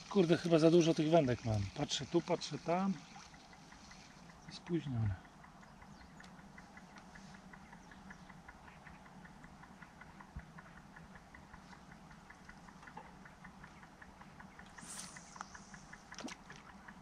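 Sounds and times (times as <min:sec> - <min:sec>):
low hum: 0:00.0 - 0:17.0
steady fast ticking: 0:00.0 - 0:17.0.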